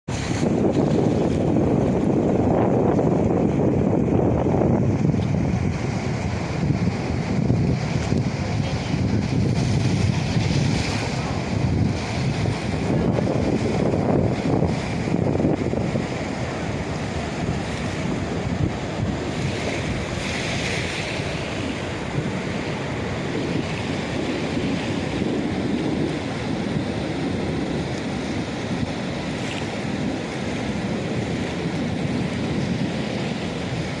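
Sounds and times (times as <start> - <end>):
surf breaking on beach: 0.1 - 34.0
wind buffeting microphone: 0.1 - 34.0.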